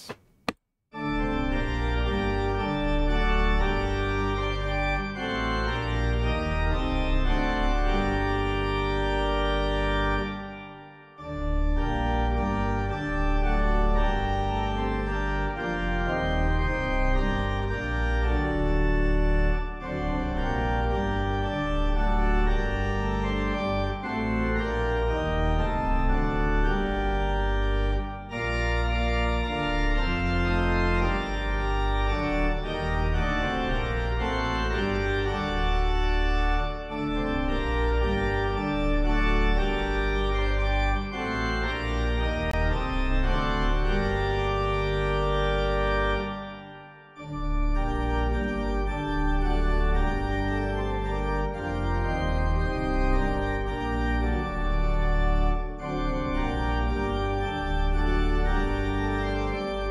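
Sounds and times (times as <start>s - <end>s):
organ playing sustained chords: 1.0s - 59.9s.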